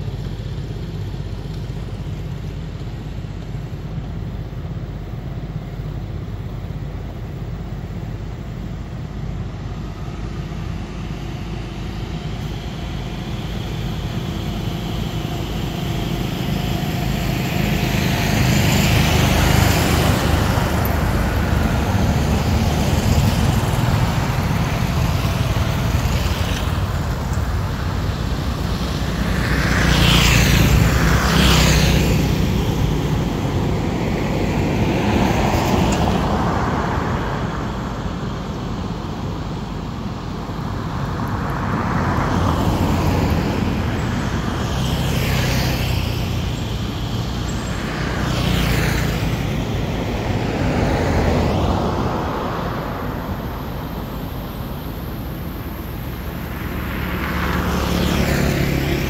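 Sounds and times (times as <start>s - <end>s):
passing motor traffic: 0.0s - 59.0s.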